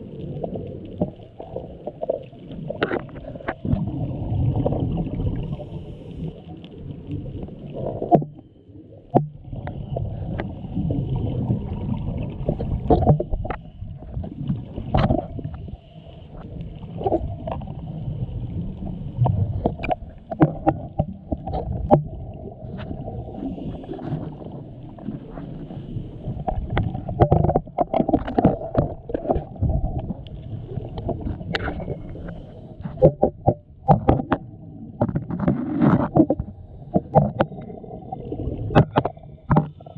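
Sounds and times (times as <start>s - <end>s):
exhaled bubbles rumbling: 0.0s - 39.9s.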